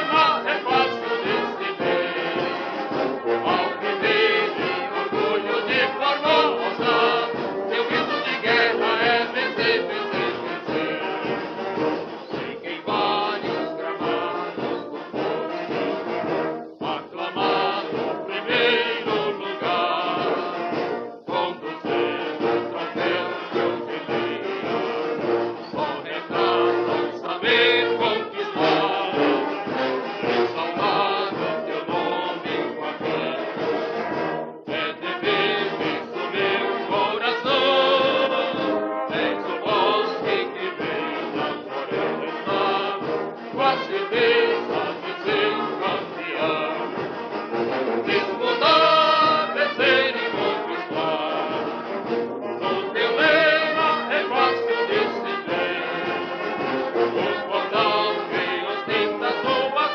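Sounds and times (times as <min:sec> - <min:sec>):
brass band playing: 0:00.0 - 0:59.9
orchestral accompaniment: 0:00.0 - 0:59.9
trumpets and trombones: 0:00.0 - 0:59.9.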